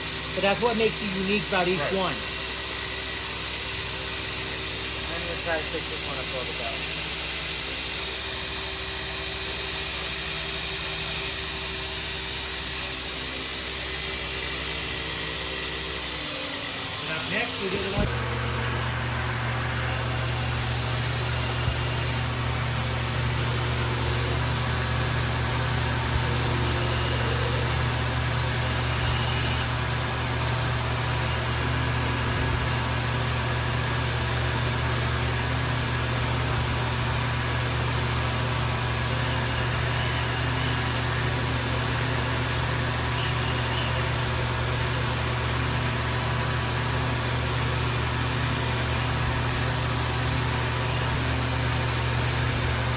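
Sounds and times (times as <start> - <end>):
electric motor humming: 0.0 - 52.9.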